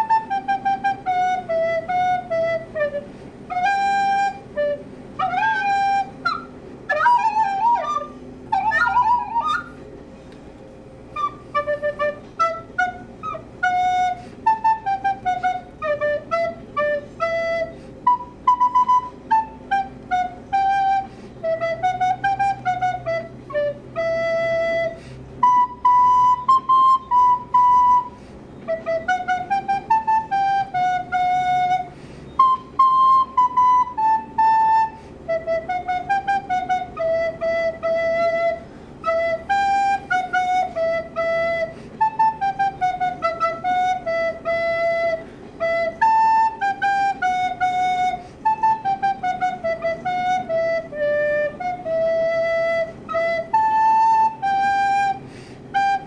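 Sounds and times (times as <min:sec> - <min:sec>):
faint low hum: 0:00.0 - 0:56.0
recorder melody: 0:00.0 - 0:56.0.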